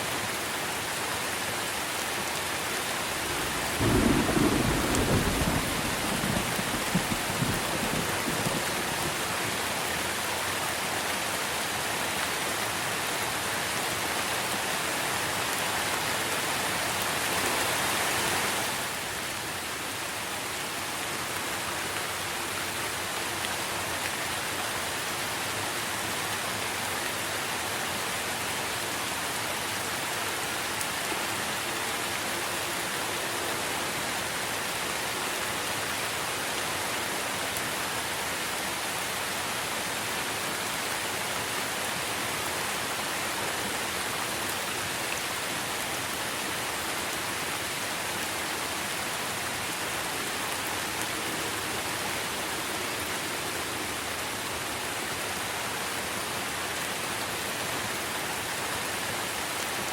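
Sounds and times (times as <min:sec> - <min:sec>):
rain on tree foliage: 0:00.0 - 0:59.9.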